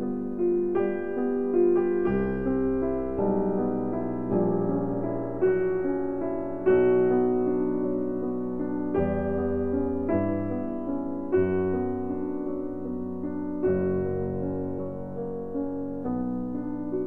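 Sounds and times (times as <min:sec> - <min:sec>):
piano music from a vinyl record: 0:00.0 - 0:17.0.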